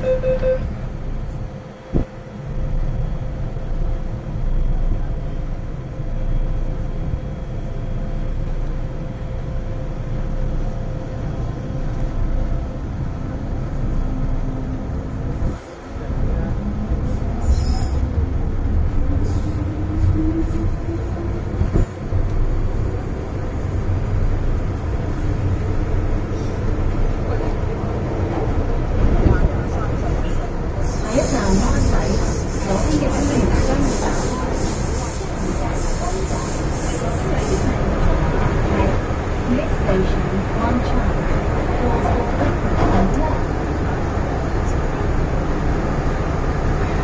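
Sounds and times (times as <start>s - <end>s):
train wheels rumbling in tunnel: 0.0s - 47.0s.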